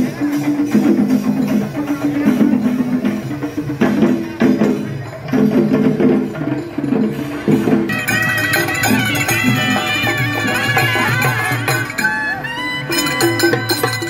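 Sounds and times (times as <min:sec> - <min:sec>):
drums and hand percussion: 0:00.0 - 0:14.0.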